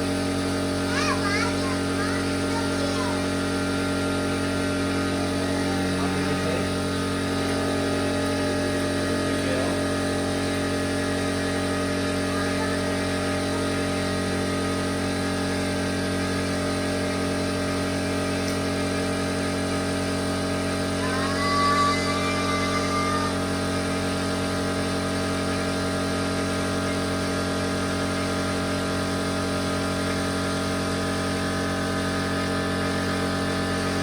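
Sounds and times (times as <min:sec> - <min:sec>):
air compressor droning: 0:00.0 - 0:34.0.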